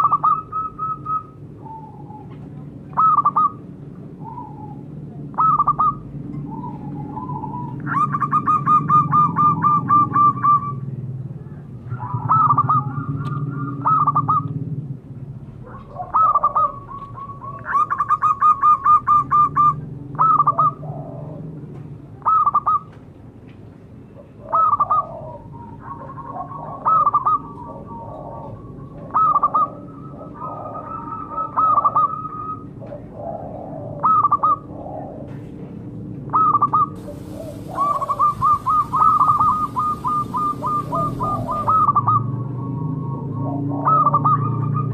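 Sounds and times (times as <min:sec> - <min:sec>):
dove cooing: 0:00.0 - 0:10.8, 0:11.9 - 0:14.5, 0:15.6 - 0:21.6, 0:24.2 - 0:35.4, 0:36.3 - 0:44.9.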